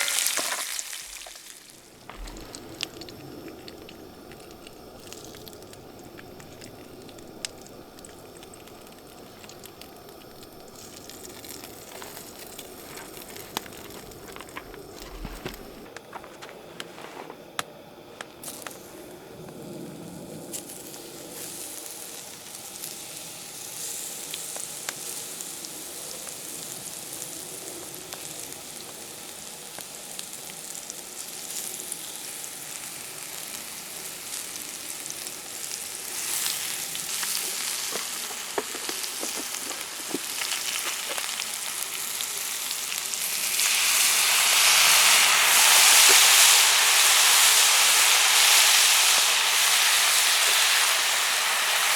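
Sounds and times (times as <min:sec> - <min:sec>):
food sizzling in a pan: 0:00.0 - 0:15.8, 0:19.8 - 0:51.9.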